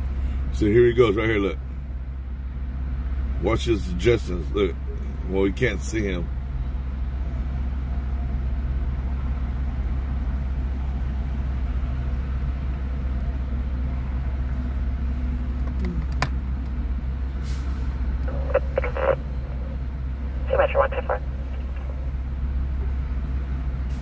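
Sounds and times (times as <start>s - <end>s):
freeway traffic rumble: 0.0s - 24.0s
truck passing: 0.0s - 24.0s.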